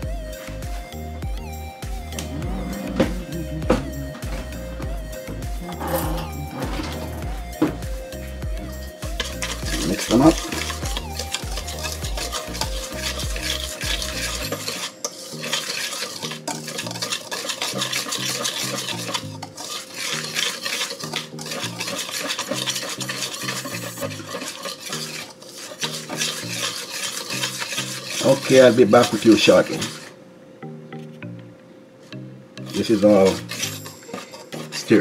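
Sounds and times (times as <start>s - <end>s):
utensil scraping metal bowl: 2.1s - 30.1s, 32.6s - 35.0s.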